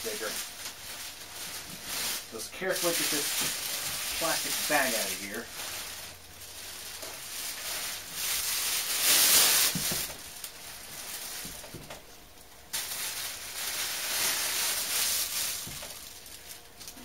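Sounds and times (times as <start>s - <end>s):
plastic bag rustling: 0.0s - 17.0s.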